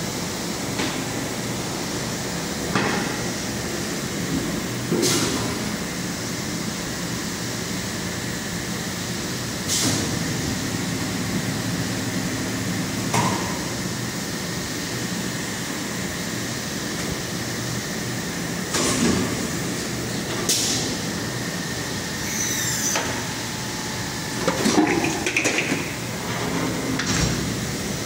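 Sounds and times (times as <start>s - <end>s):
machine humming and hissing: 0.0s - 28.0s.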